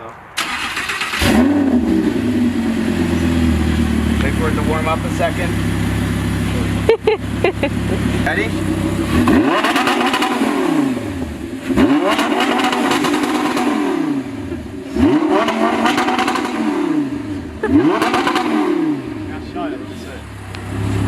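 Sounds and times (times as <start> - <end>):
car engine revving: 0.4 - 21.0.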